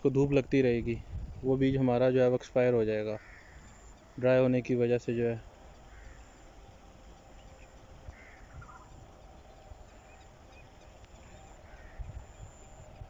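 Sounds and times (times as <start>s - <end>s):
distant bird calls: 1.9s - 13.0s.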